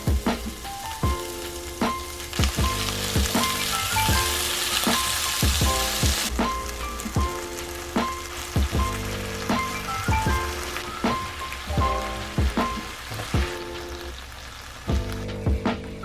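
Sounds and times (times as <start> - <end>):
food sizzling in a frying pan: 0.0 - 15.3
background music with steady beat: 0.0 - 16.0.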